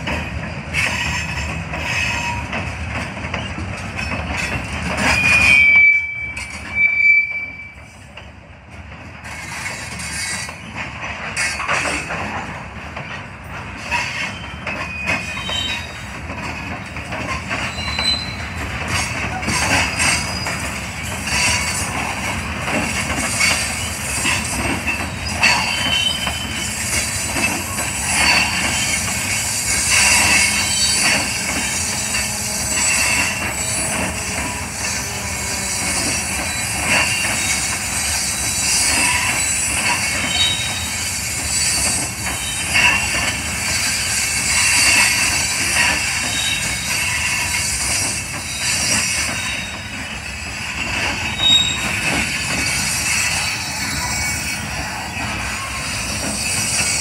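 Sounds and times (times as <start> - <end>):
train wheels squealing: 0.0 - 8.3, 9.2 - 57.0
wheels clanking over rail joints: 0.0 - 57.0.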